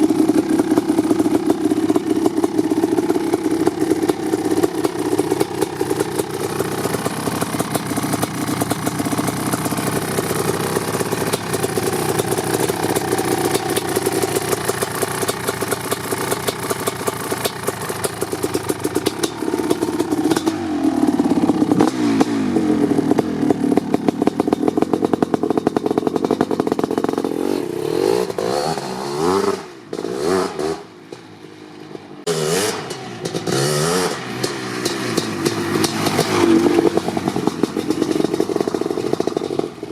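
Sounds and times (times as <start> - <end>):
two-stroke engine idling and blipping: 0.0 - 39.9.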